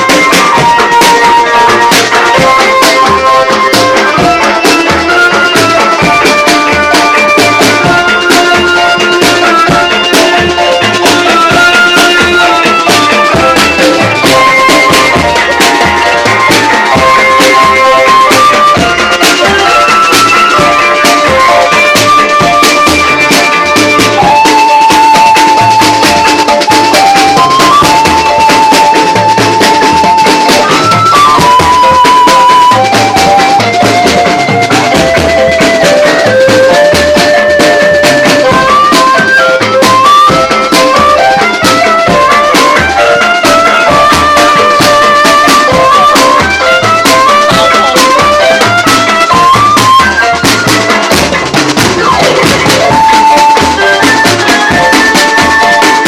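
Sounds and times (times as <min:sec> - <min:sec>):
band playing loud music: 0:00.0 - 0:56.0
ornamented melody line: 0:00.0 - 0:56.0
shaker rhythm: 0:00.0 - 0:56.0
steady drum beat: 0:00.0 - 0:56.0.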